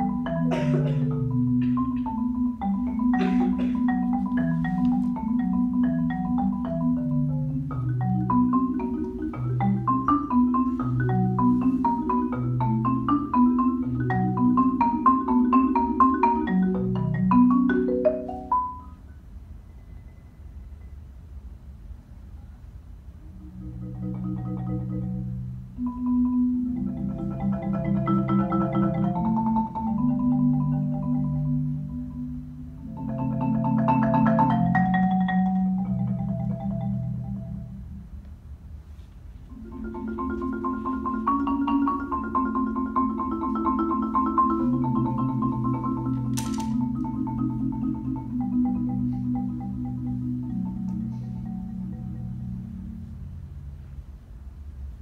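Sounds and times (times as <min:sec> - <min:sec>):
marimba rolled chords: 0:00.0 - 0:21.5, 0:23.0 - 0:38.6, 0:39.5 - 0:55.0.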